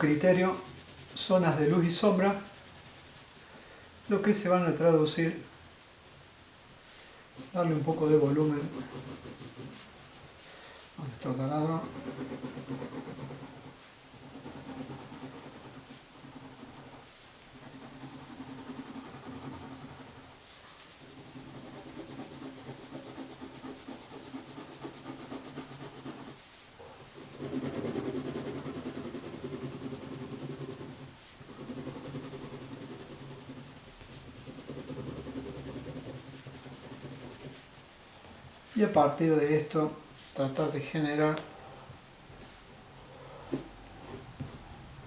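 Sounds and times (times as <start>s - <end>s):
pencil rubbing on paper: 0.0s - 6.1s, 6.9s - 38.0s.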